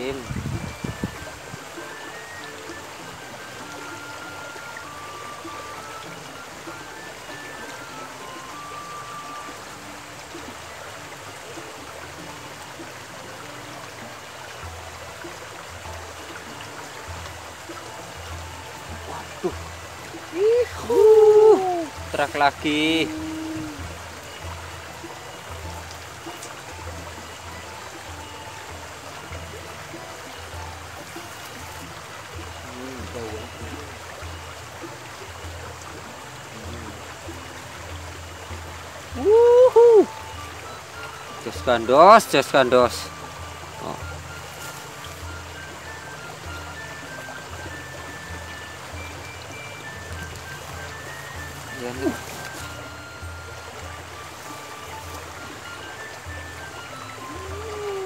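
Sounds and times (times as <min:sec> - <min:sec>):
water rushing over stones: 0:00.0 - 0:58.0.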